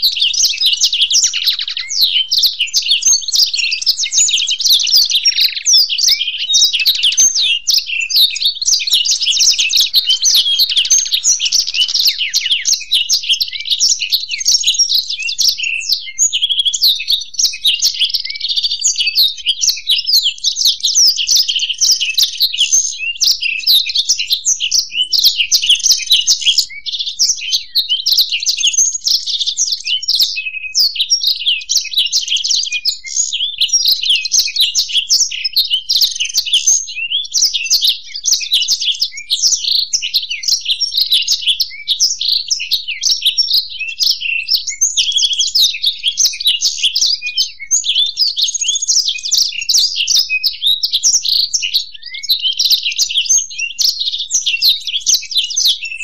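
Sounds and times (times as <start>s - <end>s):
birds twittering and warbling: 0.0s - 56.0s.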